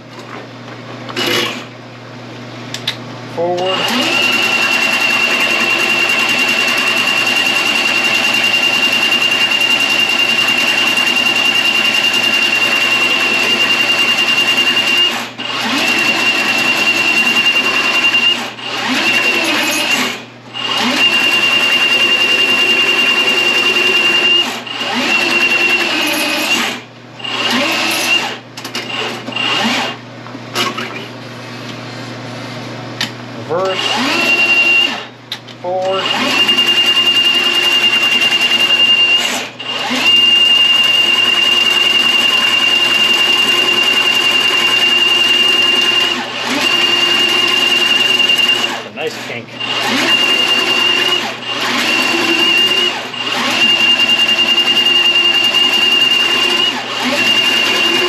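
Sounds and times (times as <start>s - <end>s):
drain-cleaning machine motor whining: 3.4s - 28.3s, 33.5s - 35.1s, 35.8s - 58.0s.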